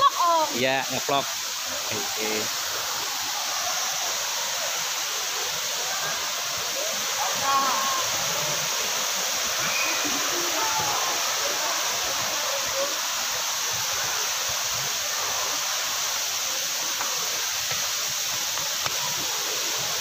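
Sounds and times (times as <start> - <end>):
waterfall rushing into pool: 0.0 - 20.0
faint voices of people: 1.6 - 20.0.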